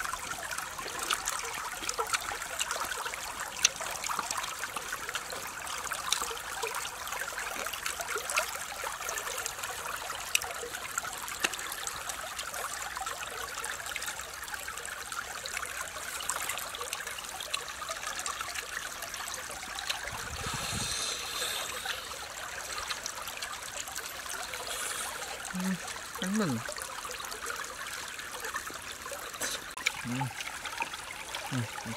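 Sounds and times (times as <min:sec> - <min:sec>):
stream running over rocks: 0:00.0 - 0:31.9.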